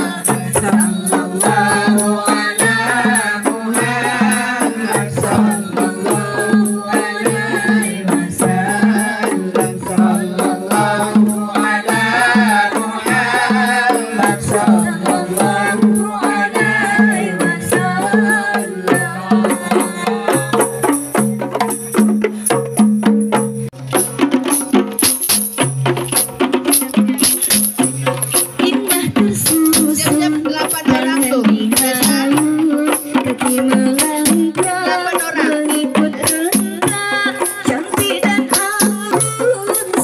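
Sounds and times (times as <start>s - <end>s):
women singing together: 0.0s - 21.2s, 28.6s - 40.0s
frame drums beating: 0.0s - 40.0s.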